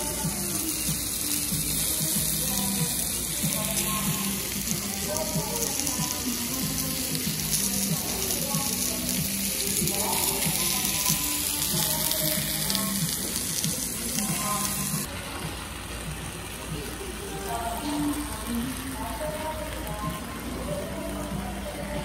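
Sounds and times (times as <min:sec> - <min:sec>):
repetitive background music: 0:00.0 - 0:22.0.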